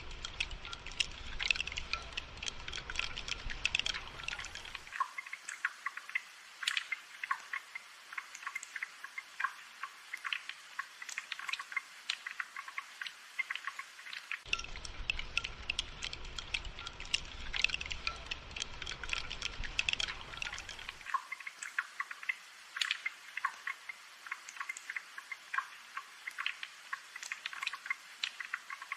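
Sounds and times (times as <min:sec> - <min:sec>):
rain dripping and pattering: 0:00.0 - 0:28.9.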